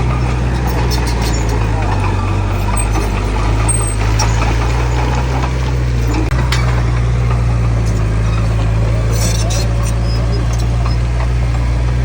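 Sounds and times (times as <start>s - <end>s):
heavy diesel engine droning: 0.0s - 12.0s
light metallic clicks and clanks: 0.3s - 12.0s.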